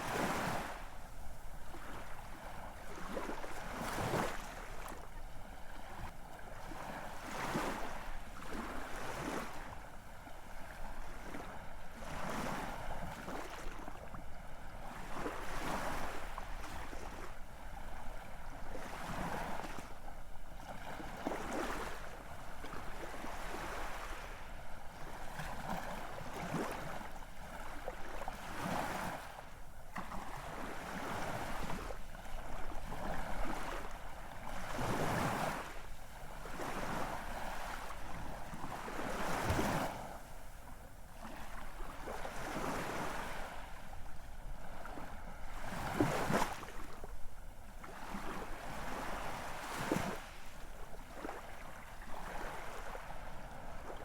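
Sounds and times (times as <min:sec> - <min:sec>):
ocean waves breaking on shore: 0:00.0 - 0:13.9, 0:14.7 - 0:54.0.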